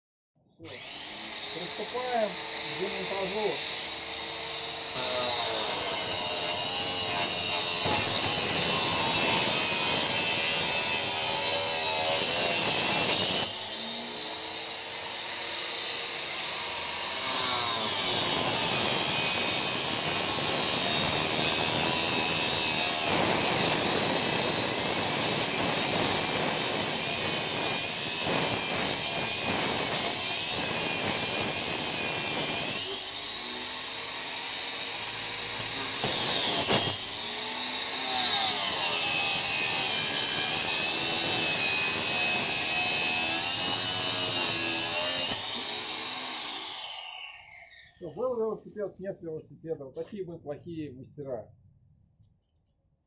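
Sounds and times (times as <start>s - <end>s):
angle grinder cutting metal tube: 0.6s - 48.4s.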